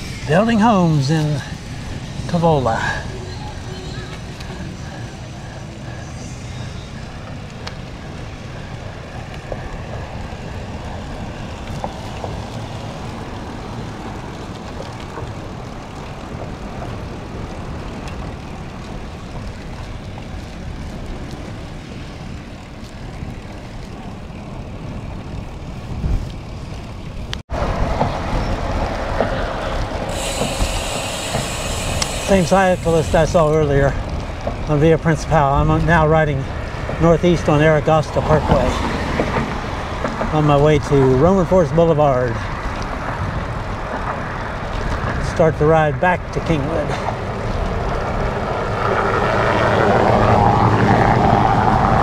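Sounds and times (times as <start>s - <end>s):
tyre and road noise: 0.0s - 52.0s
wind buffeting microphone: 0.0s - 52.0s.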